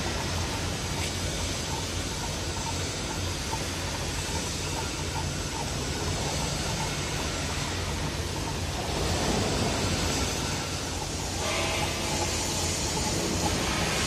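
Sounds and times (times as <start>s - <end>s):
faint ticking: 0.0s - 14.0s
welding hum: 0.0s - 14.0s.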